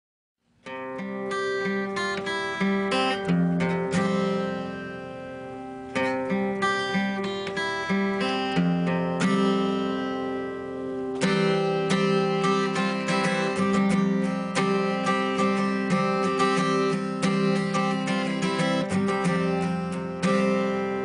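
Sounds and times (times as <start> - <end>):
acoustic guitar strumming: 0.6 - 21.0.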